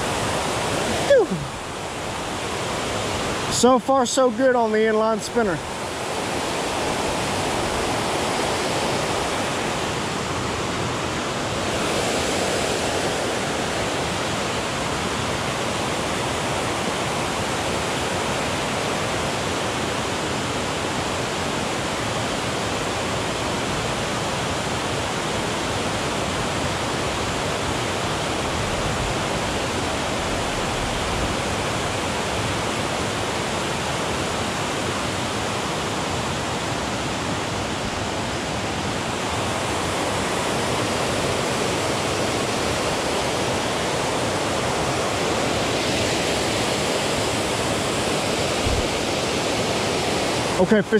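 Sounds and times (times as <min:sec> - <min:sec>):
river running: 0:00.0 - 0:50.9.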